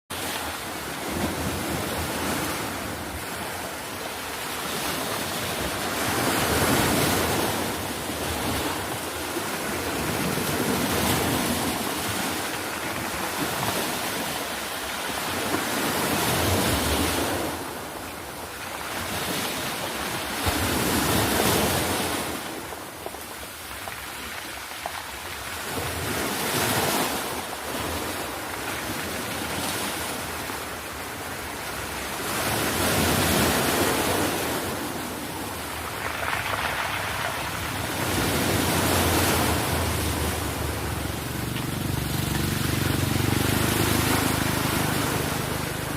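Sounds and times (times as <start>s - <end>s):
ocean surf breaking: 0.1s - 45.9s.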